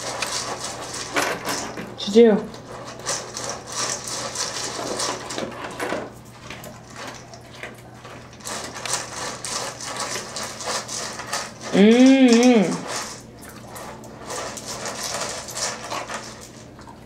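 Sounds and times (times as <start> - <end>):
dry kibble clicking and rattling: 0.0 - 17.0.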